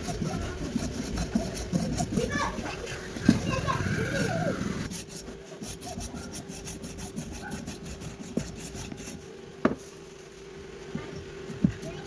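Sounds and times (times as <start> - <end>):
hand tool scraping strokes: 0.0 - 10.4.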